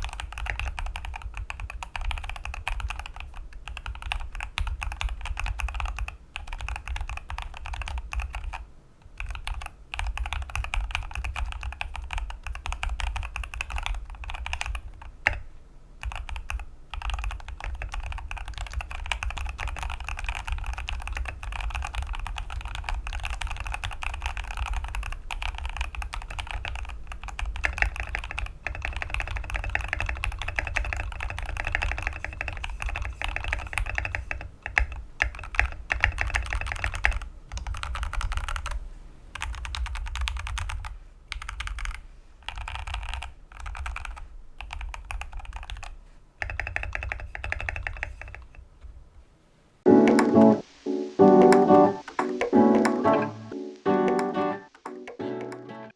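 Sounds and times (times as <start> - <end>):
mechanical keyboard typing: 0.0 - 15.4, 16.0 - 48.6, 54.0 - 55.7.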